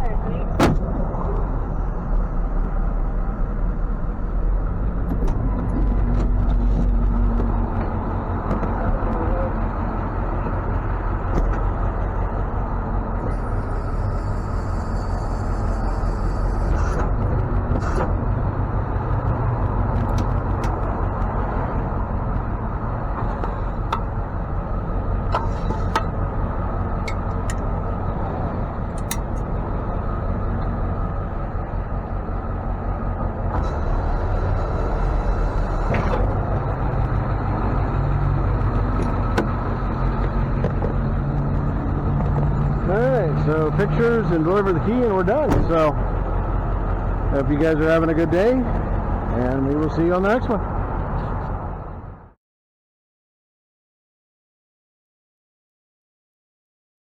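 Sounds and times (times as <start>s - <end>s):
truck engine running: 0.0s - 52.3s.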